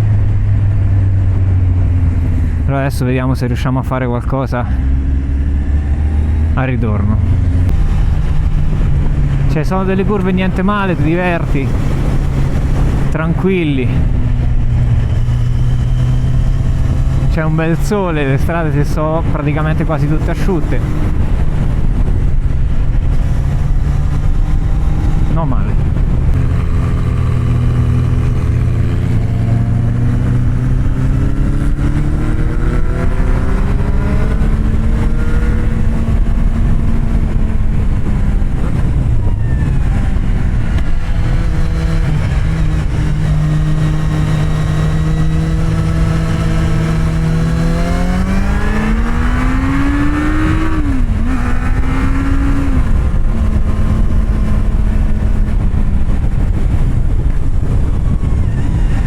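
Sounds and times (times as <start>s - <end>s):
motorcycle engine revving: 4.5s - 59.0s
wind rushing: 4.6s - 59.0s
gear shifts: 4.8s - 59.0s.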